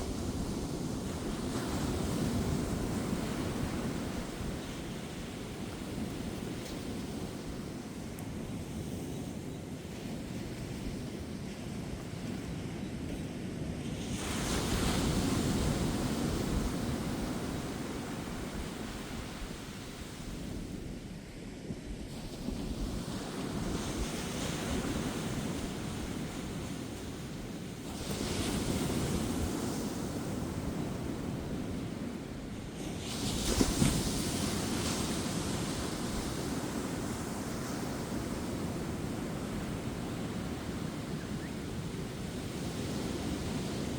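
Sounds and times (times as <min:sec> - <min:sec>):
ocean waves breaking on beach: 0:00.0 - 0:43.9
surf rumble: 0:00.0 - 0:43.9.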